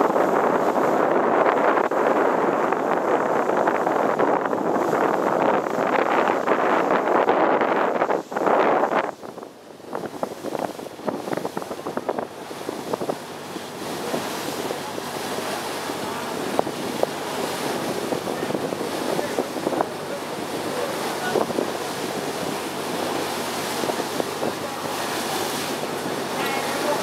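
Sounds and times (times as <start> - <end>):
water splashing along boat hull: 0.0 - 27.0
wind buffeting microphone: 0.0 - 27.0.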